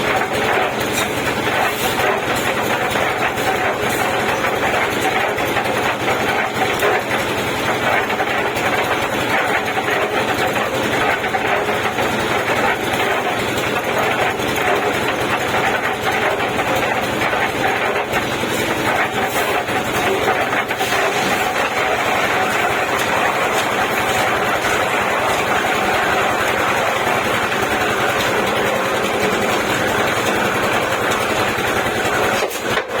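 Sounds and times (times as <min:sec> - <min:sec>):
concrete mixer engine running: 0:00.0 - 0:33.0.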